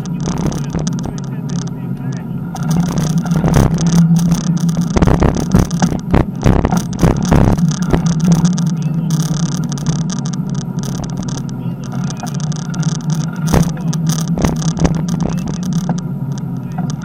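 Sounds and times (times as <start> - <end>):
bicycle tyres rumbling on asphalt: 0.0 - 17.0
bicycle knocks and rattles: 2.5 - 17.0.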